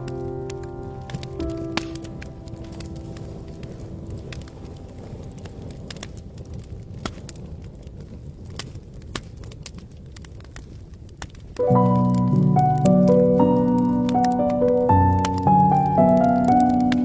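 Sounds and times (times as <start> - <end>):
burning logs rumble: 0.0 - 17.0
fire pops and snaps: 0.0 - 17.0.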